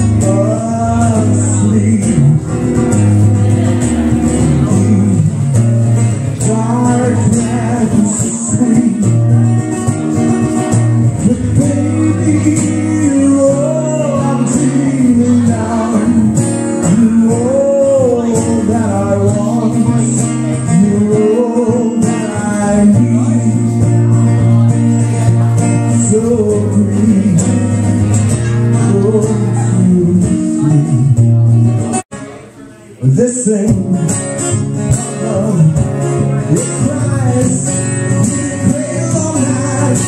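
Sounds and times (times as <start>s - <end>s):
guitar lead with bending notes: 0.0s - 40.0s
live blues band playing: 0.0s - 40.0s.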